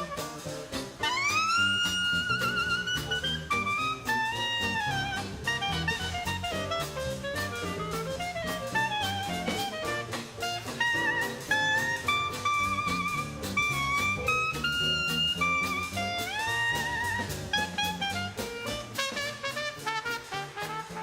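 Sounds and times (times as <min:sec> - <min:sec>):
drums: 0:00.0 - 0:21.0
horn playing held notes: 0:00.0 - 0:21.0
walking bass line: 0:00.0 - 0:21.0.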